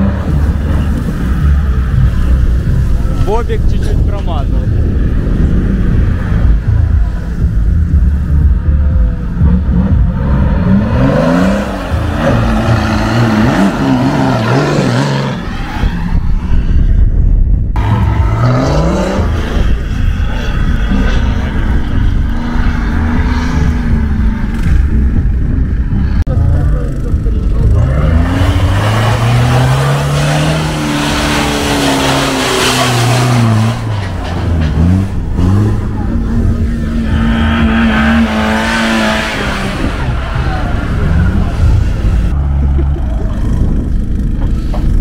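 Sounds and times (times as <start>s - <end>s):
off-road vehicle engine revving: 0.0s - 16.6s, 17.8s - 45.0s.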